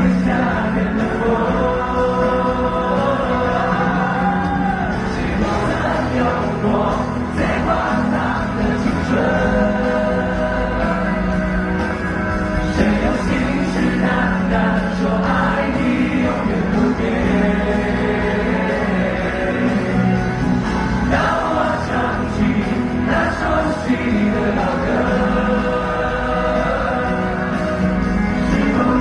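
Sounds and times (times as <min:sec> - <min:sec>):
live pop concert music: 0:00.0 - 0:29.0.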